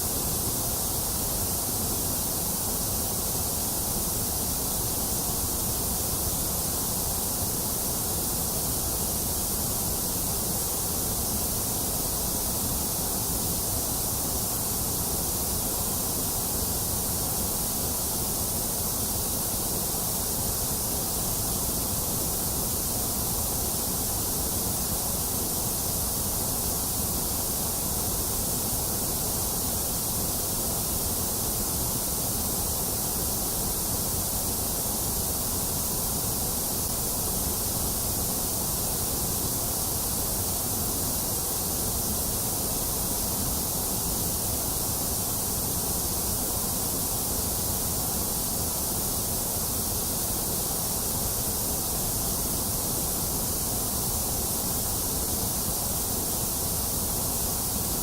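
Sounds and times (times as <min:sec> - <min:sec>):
steady white noise: 0:00.0 - 0:58.0.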